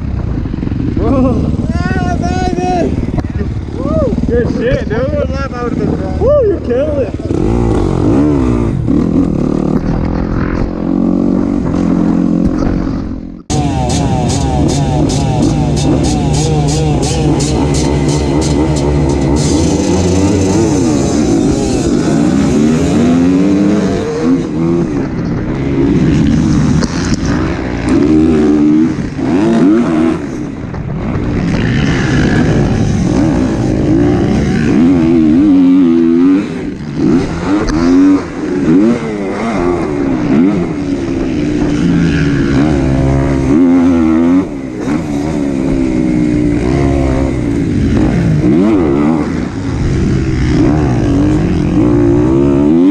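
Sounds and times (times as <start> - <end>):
motocross engine revving: 0.4 - 52.9.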